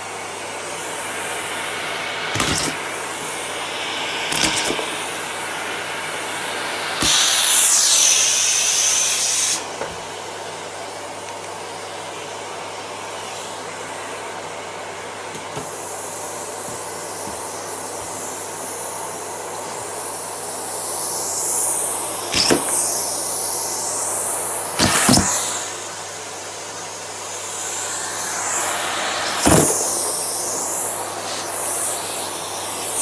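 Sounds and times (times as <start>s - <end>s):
vacuum cleaner suction rush: 0.0s - 33.0s.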